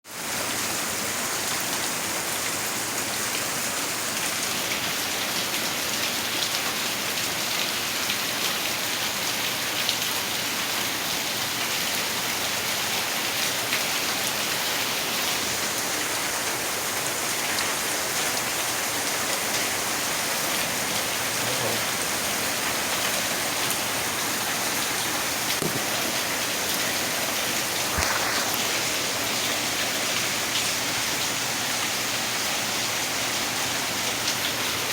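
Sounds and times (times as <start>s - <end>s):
rain pattering: 0.3s - 34.9s.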